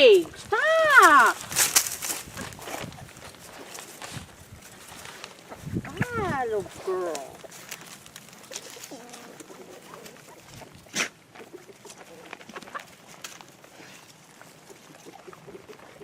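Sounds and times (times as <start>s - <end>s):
poultry clucking and chirping: 2.5s - 16.0s.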